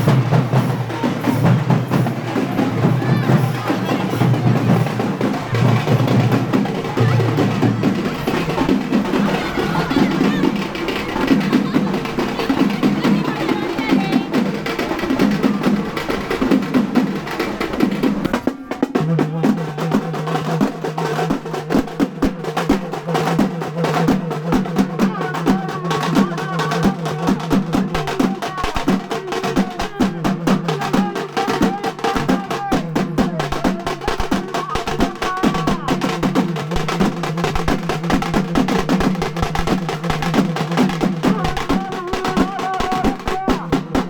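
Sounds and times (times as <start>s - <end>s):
fast dense drumming: 0.0s - 44.0s.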